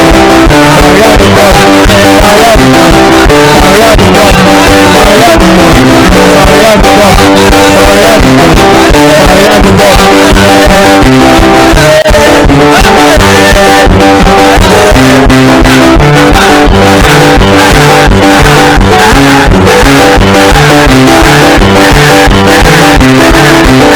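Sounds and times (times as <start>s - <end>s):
loud music with guitar and bass: 0.0s - 23.9s.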